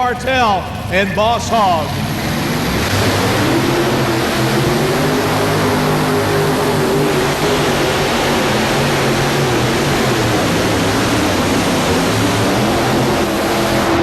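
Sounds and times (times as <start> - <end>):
pulling tractor engines at full throttle: 0.0 - 14.0.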